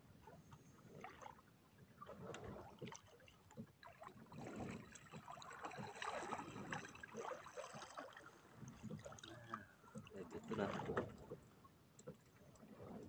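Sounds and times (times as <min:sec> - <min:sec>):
water splashing against boat hull: 0:00.1 - 0:13.0.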